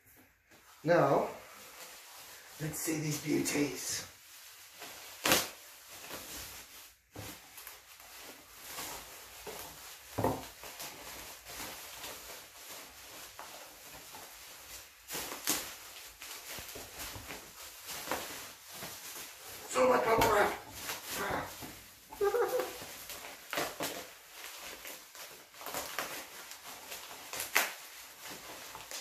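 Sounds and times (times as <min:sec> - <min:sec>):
bubble wrap rustling and crinkling: 0:00.1 - 0:29.0
bubble wrap crackles: 0:00.4 - 0:29.0.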